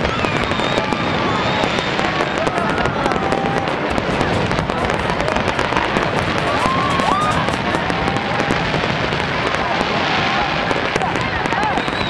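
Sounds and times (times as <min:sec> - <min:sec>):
fireworks crackling: 0:00.0 - 0:12.0
fireworks whistling: 0:00.0 - 0:12.0.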